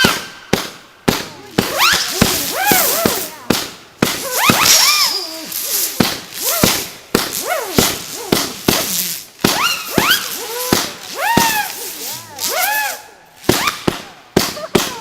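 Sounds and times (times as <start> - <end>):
fireworks bangs: 0.0 - 15.0
firework whistle: 1.6 - 3.3, 4.1 - 14.6.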